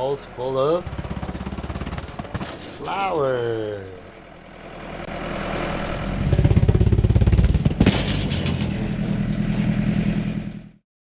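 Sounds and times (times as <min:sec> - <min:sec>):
tractor engine running: 0:00.0 - 0:10.8.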